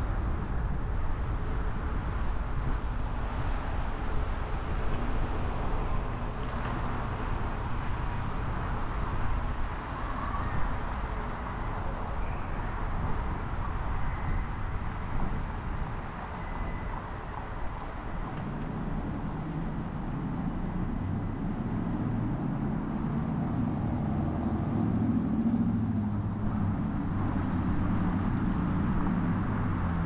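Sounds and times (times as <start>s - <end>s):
car engine and tyre rumble: 0.0s - 30.0s
road noise: 0.0s - 30.0s.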